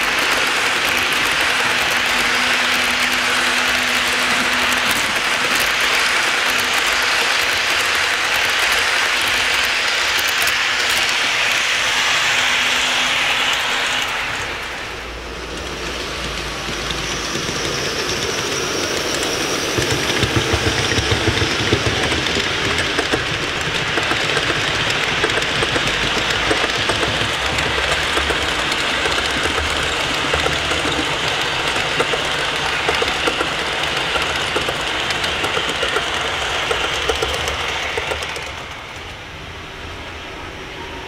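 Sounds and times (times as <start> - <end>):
wheels clicking on rails: 0.0 - 40.2
model train rolling rumble: 0.0 - 41.0.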